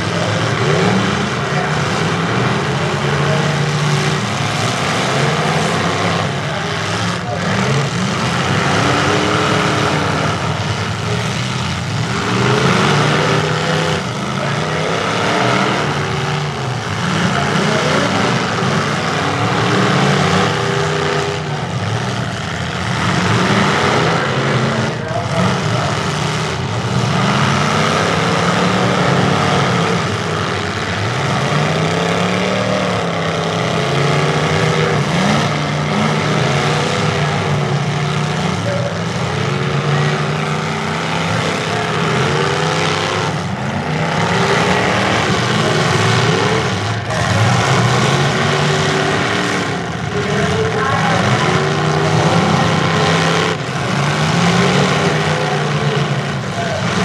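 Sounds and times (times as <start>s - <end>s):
truck engines revving: 0.0s - 57.0s
trucks crashing together: 0.0s - 57.0s.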